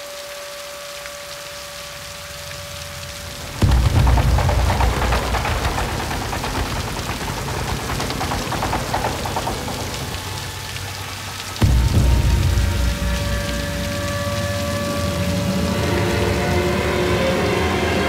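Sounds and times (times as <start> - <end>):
heavy rain pouring: 0.0 - 18.0
deep rumble: 2.9 - 18.0.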